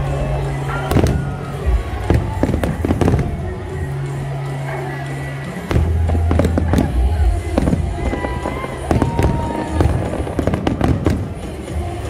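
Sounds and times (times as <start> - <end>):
music playing: 0.0 - 12.0
fireworks bangs and cracks: 0.6 - 4.0, 5.6 - 12.0.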